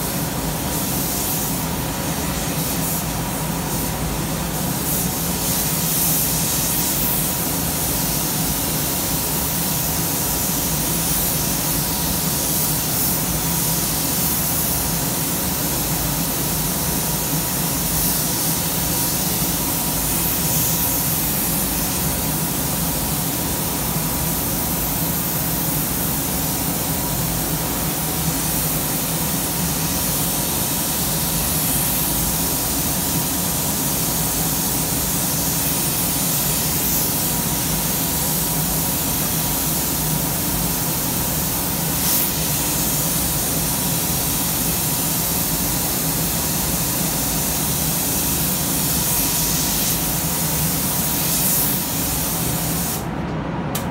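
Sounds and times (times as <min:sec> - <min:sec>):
paint spray gun hissing: 0:00.0 - 0:53.0.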